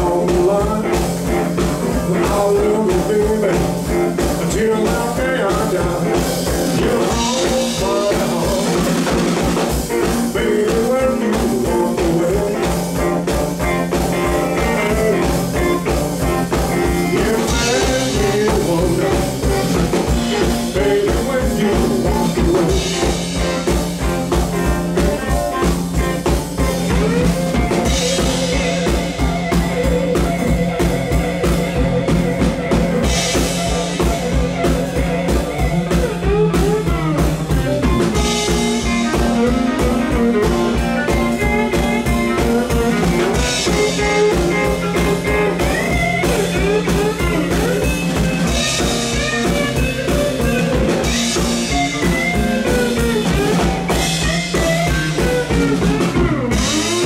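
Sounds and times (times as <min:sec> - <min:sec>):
electric guitar lead solo: 0:00.0 - 0:57.0.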